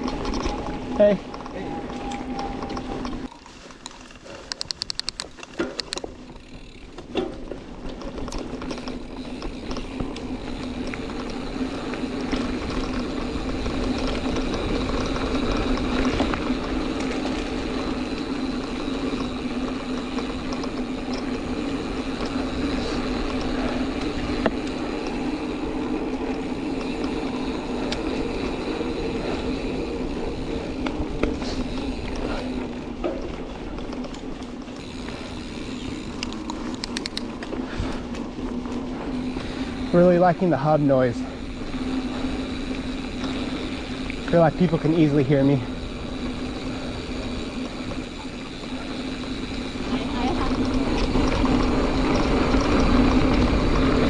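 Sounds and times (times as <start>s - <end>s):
bicycle freehub ratcheting buzz: 5.8s - 7.2s, 8.1s - 33.0s, 33.8s - 54.0s.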